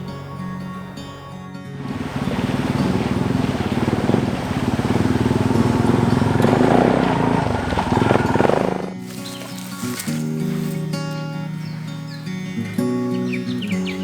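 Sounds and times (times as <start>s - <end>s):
single-cylinder engine running: 1.8s - 14.0s.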